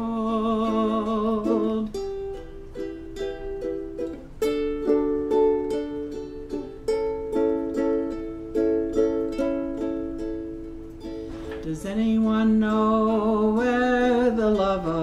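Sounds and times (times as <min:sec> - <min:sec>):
ukulele strumming chords: 0:00.0 - 0:15.0.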